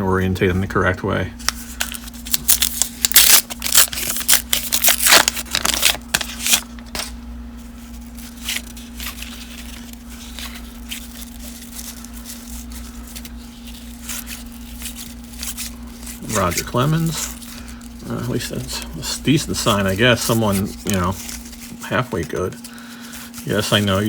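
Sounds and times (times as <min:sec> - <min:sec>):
low electrical hum: 0:00.0 - 0:24.0
cards and wrappers rustling: 0:01.4 - 0:24.0.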